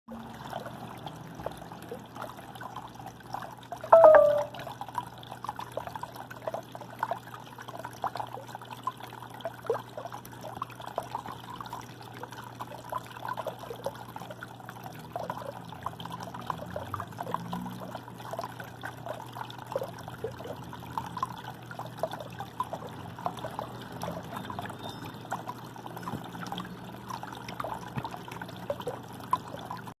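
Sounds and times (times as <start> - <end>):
water trickling and bubbling: 0.1 - 30.0.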